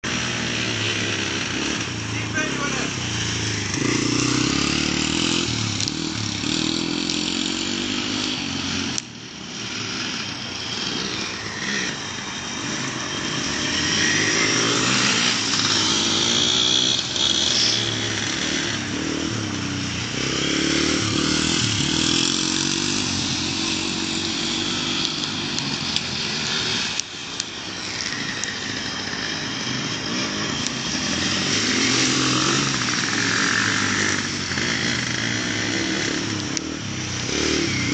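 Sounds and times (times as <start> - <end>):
motorbike engines revving: 0.0 - 37.9.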